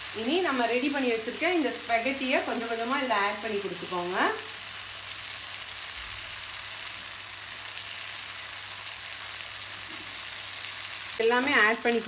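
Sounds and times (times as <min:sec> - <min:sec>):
stir-fry sizzling in pan: 0:00.0 - 0:12.0.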